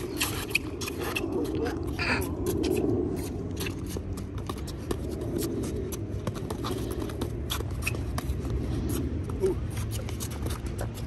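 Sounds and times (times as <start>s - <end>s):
low steady rumble: 0.0s - 10.4s
sneaker footwork on asphalt: 0.0s - 11.0s.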